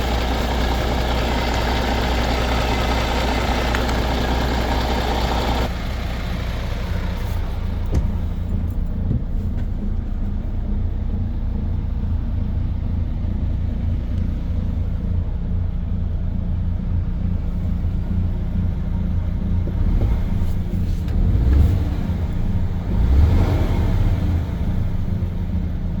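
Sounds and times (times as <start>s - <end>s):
diesel truck engine rumbling: 0.0s - 26.0s.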